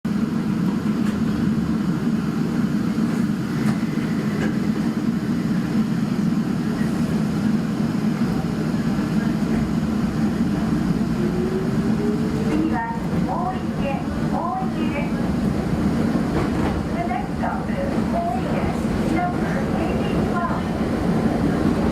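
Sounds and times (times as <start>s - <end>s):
train wheels rumbling on track: 0.1s - 21.9s.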